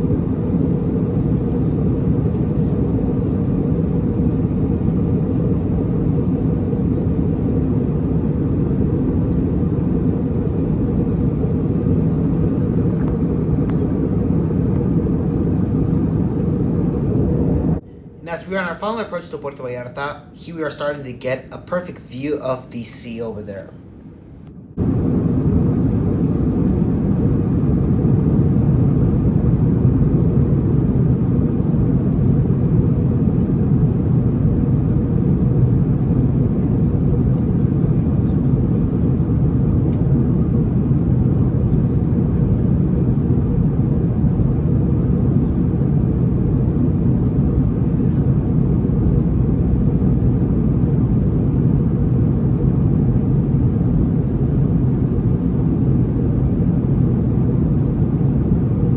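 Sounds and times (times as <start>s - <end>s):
airplane cabin rumble: 0.0s - 58.9s.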